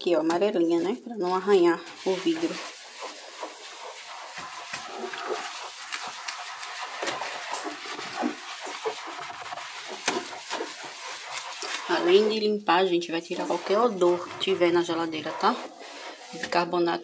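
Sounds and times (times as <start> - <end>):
sponge scrubbing wet glass: 0.0 - 17.0.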